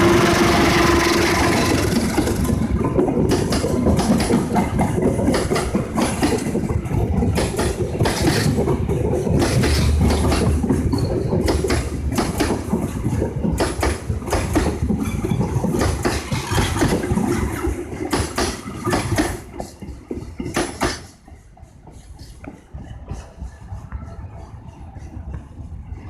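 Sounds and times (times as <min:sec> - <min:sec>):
diesel train engine rumble: 0:00.0 - 0:26.0
train wheels clacking: 0:00.0 - 0:26.0.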